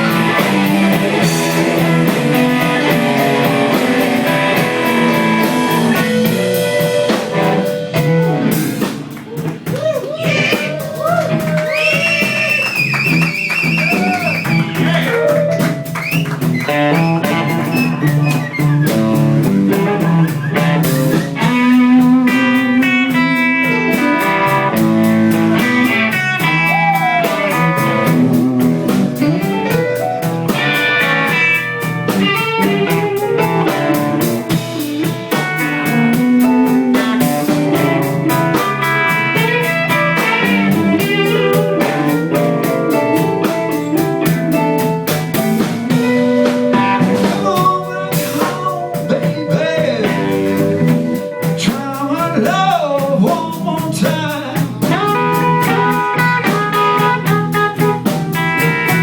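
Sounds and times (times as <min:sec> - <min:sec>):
lead guitar solo: 0:00.0 - 0:51.6, 0:54.8 - 0:59.0
blues band playing: 0:00.0 - 0:59.0
drum kit beat: 0:00.0 - 0:59.0.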